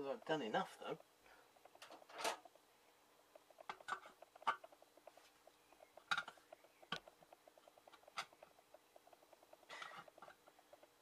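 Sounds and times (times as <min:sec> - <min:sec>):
faint fast ticking: 0:00.0 - 0:11.0.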